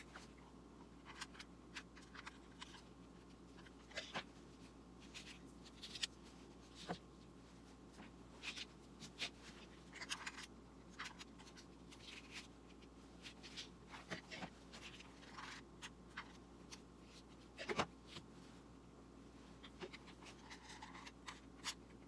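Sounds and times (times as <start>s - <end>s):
scratching and rustling of craft materials: 0.0s - 22.0s.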